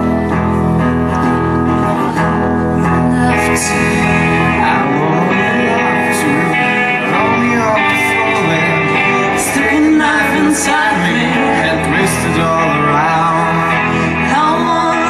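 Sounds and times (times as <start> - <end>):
electric guitars: 0.0 - 15.0
keyboard: 0.0 - 15.0
person singing: 0.0 - 15.0.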